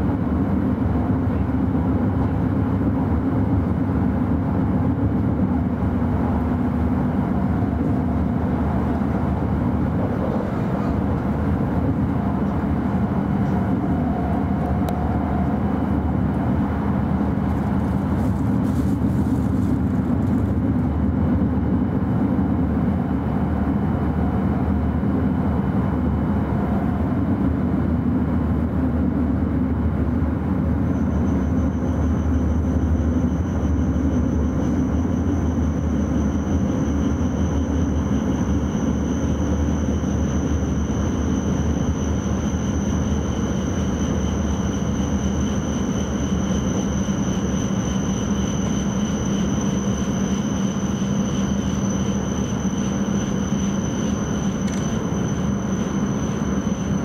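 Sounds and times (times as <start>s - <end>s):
train cabin running rumble: 0.0s - 57.0s.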